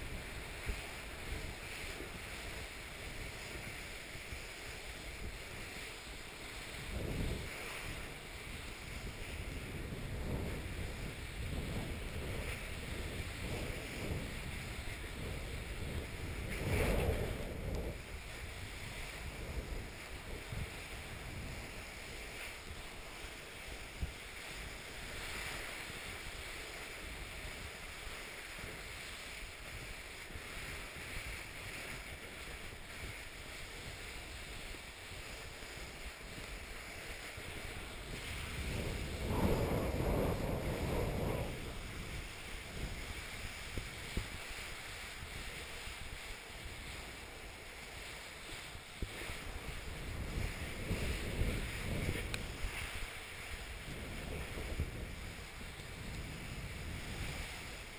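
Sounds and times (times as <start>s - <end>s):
rush of snow: 0.0s - 57.9s
skis hissing over snow: 0.0s - 57.9s
wind buffeting microphone: 0.0s - 57.9s.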